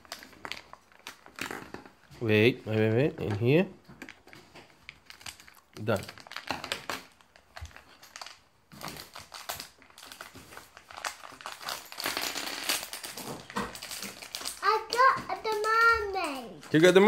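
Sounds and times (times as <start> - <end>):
foil packet crinkling: 0.0 - 2.1, 4.0 - 15.9.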